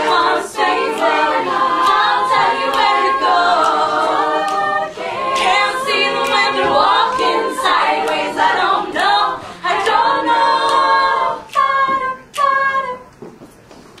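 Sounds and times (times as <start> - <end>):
women singing in close harmony: 0.0 - 13.2.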